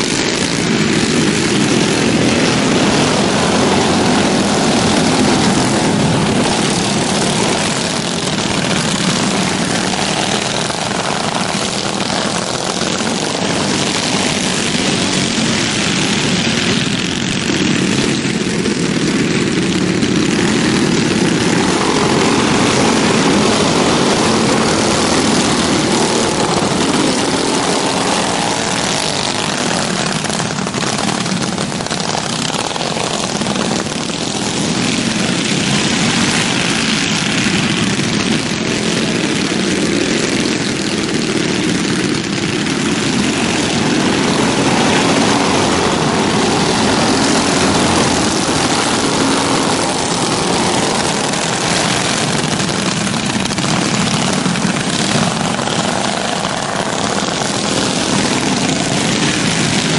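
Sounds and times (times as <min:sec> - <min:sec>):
racing karts buzzing: 0:00.0 - 0:59.9.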